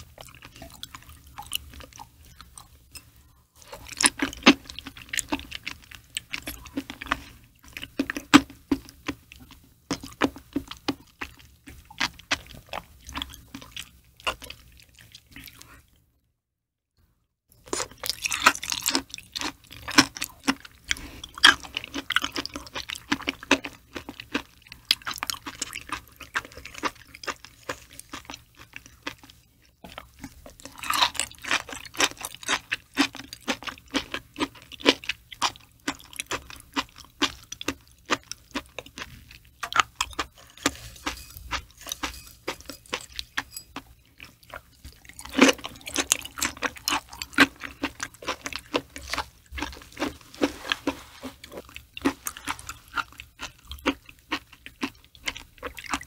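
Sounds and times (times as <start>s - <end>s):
chewing with mouth clicks: 0.0s - 16.0s, 17.7s - 56.0s.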